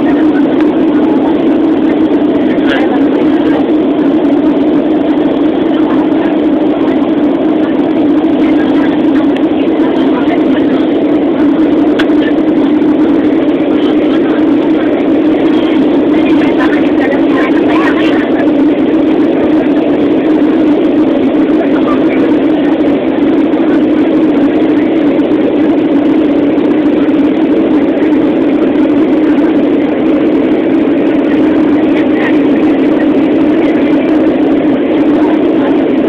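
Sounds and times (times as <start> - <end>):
jet cabin engine drone: 0.0 - 36.0.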